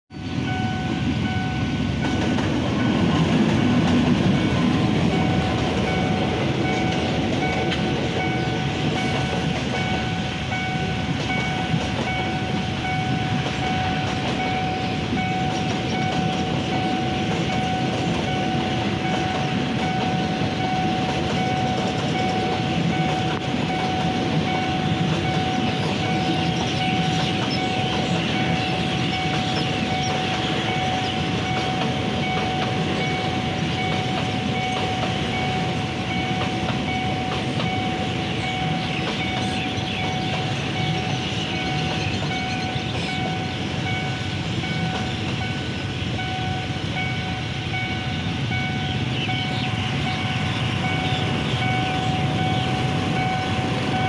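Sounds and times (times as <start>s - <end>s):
crossing warning alarm tone: 0.1s - 54.0s
train wheels clattering on rails: 0.1s - 54.0s.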